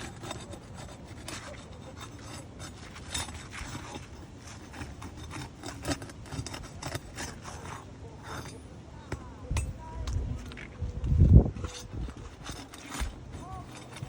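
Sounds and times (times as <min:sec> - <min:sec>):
tool scraping under roof shingles: 0:00.0 - 0:09.2, 0:10.2 - 0:14.0.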